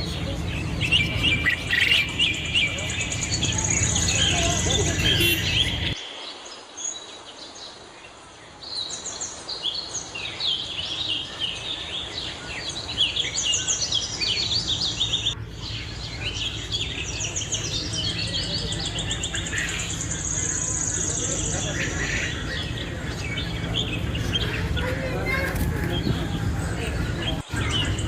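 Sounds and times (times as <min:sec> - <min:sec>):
low background rumble: 0:00.0 - 0:06.0, 0:10.8 - 0:28.0
caged birds chirping: 0:00.0 - 0:07.8, 0:08.4 - 0:28.0.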